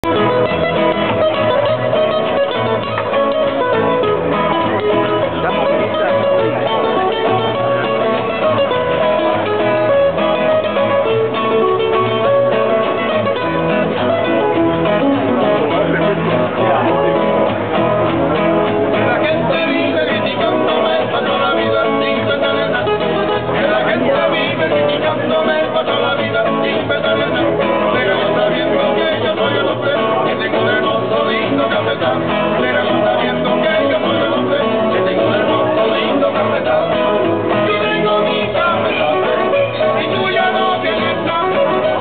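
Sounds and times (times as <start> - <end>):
acoustic string group playing: 0.0 - 42.0.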